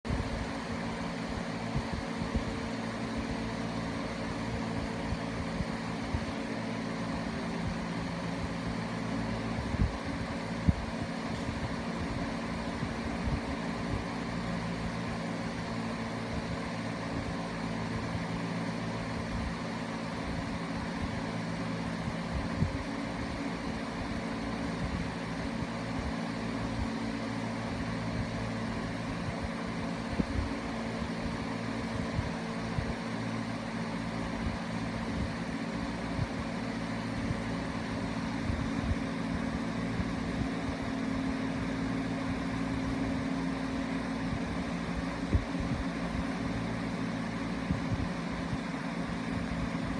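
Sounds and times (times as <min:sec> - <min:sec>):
low mechanical hum: 0:00.1 - 0:49.9.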